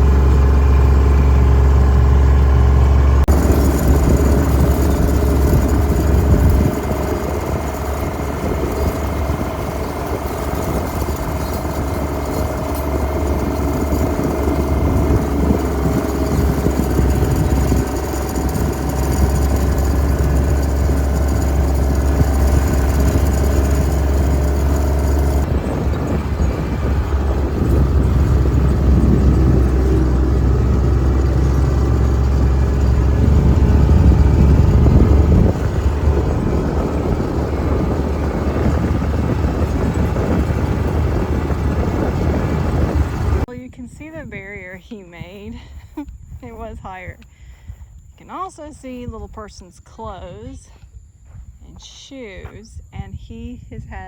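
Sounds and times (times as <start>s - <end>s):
tractor engine running: 0.0s - 50.7s.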